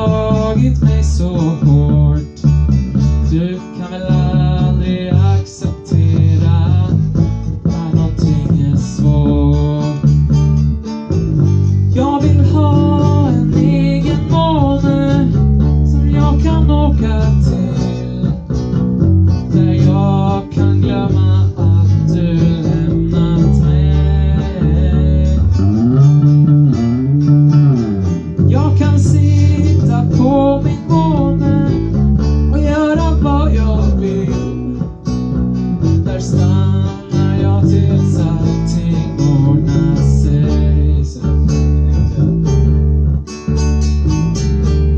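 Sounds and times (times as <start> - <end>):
person singing: 0.0 - 10.3, 11.9 - 18.6, 19.3 - 26.4, 28.0 - 35.0, 35.8 - 42.5
acoustic guitar: 0.0 - 44.9
electric bass notes: 0.0 - 44.9.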